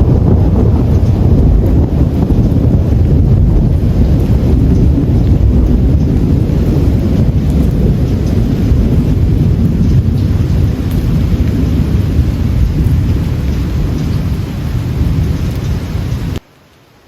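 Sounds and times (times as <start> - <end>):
rolling thunder: 0.0 - 16.4
rain falling: 0.0 - 17.0.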